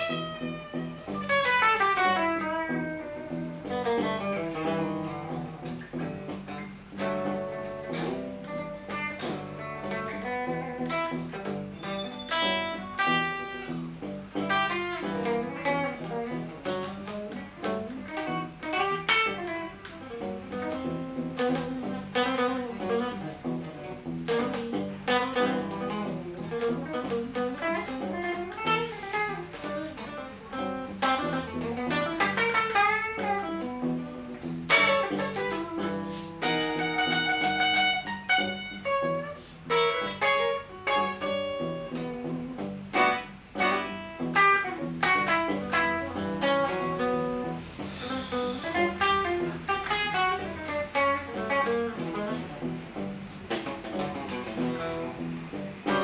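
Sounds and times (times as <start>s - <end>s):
electric guitar fast picking: 0.0s - 56.0s.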